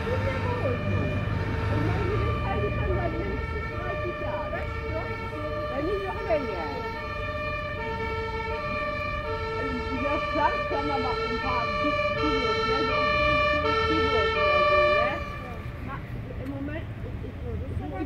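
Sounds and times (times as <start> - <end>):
two-tone emergency siren: 0.0 - 15.8.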